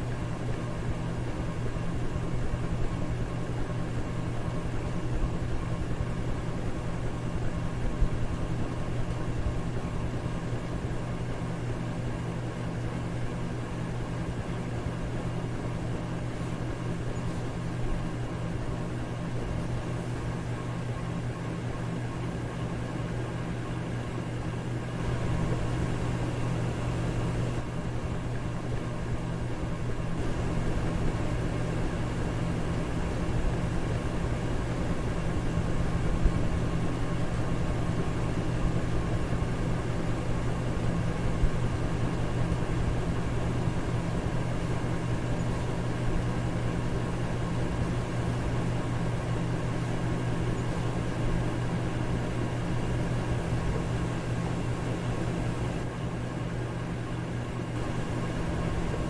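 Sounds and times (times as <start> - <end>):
electric fan whooshing: 0.0 - 59.0
low motor hum: 0.0 - 59.0.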